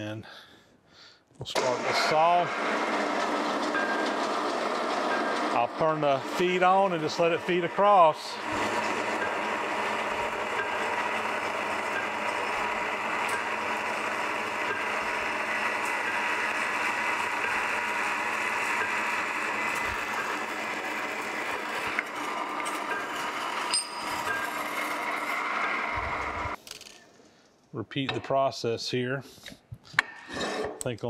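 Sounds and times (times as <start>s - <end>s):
band saw cutting metal: 1.6s - 26.6s.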